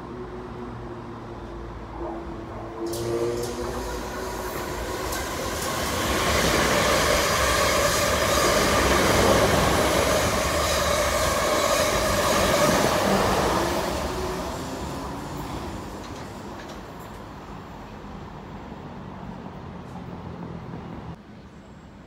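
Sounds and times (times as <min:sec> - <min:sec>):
train wheels whining on rails: 0:00.0 - 0:18.0
train passing: 0:00.0 - 0:21.2.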